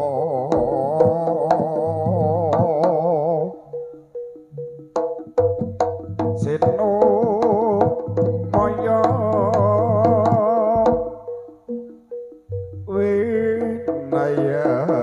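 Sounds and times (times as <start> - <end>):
drum strokes: 0.0 - 3.3, 4.2 - 15.0
wavering held melody: 0.0 - 15.0.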